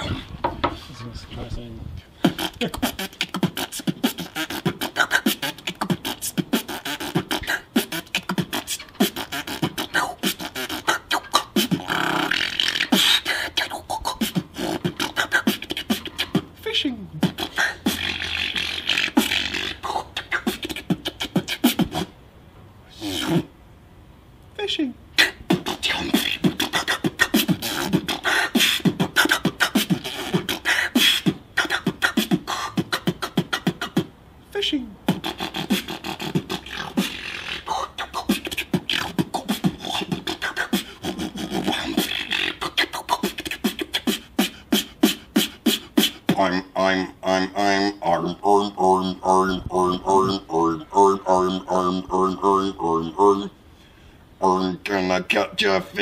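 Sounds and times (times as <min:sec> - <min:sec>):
man beatboxing: 0:02.1 - 0:22.1, 0:22.9 - 0:23.5, 0:25.2 - 0:53.6, 0:54.4 - 0:56.0.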